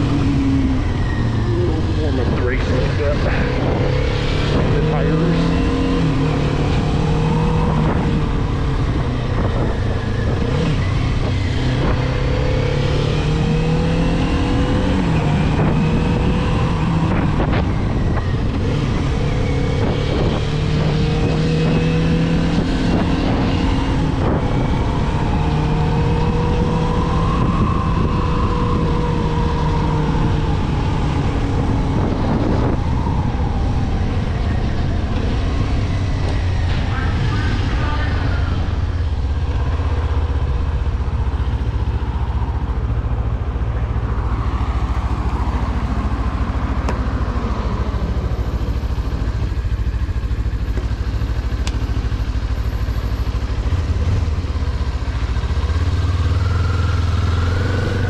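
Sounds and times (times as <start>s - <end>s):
wind rushing on microphone: 0.0s - 50.7s
motorcycle engine running: 0.0s - 58.0s.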